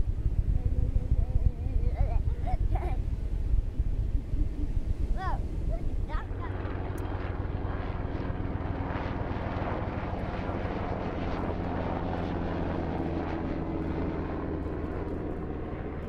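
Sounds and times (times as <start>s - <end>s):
helicopter flying overhead: 0.0s - 16.0s.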